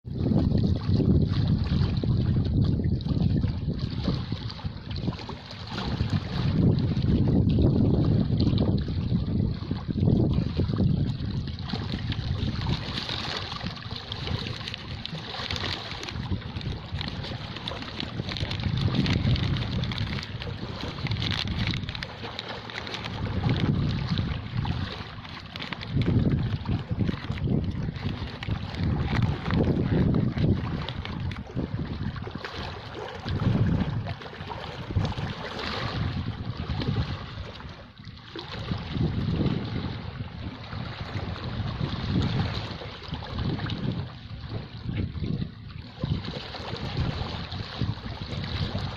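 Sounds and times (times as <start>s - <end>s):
sea waves washing in: 0.0s - 48.9s
wind buffeting microphone: 0.0s - 48.9s.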